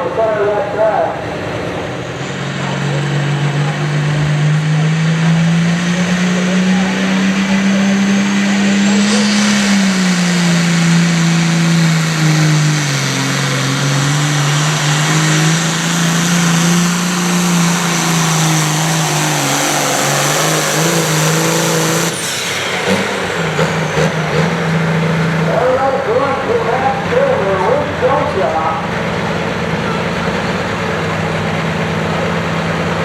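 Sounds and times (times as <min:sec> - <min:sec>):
tractor engine at full throttle: 0:00.0 - 0:33.0.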